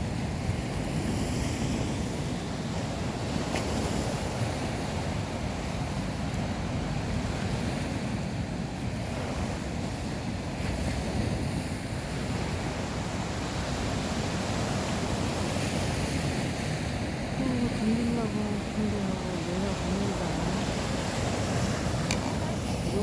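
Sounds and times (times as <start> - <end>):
sea surf washing on shore: 0.0 - 23.0
wind on microphone: 0.0 - 23.0.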